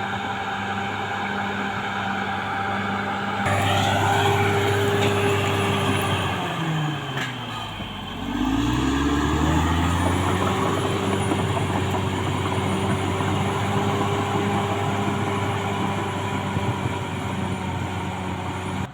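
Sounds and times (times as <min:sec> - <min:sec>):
bulldozer diesel engine revving: 0:00.1 - 0:18.9.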